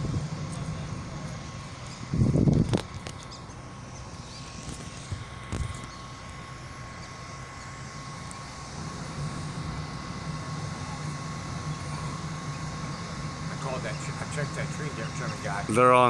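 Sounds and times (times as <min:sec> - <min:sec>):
engine low drone: 0:00.0 - 0:16.0.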